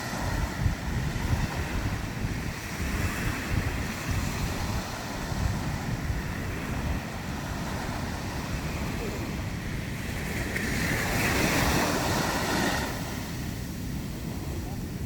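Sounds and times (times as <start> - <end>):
ocean surf washing in: 0.0 - 15.0
wind buffeting microphone: 0.0 - 15.0.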